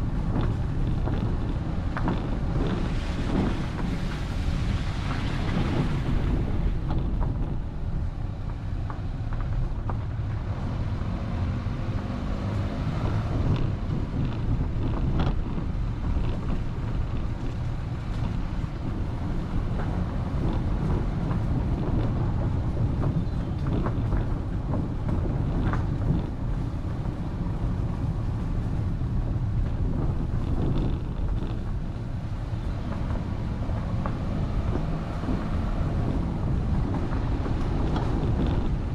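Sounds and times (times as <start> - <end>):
road and engine rumble: 0.0 - 38.9
wind buffeting camera: 0.0 - 38.9.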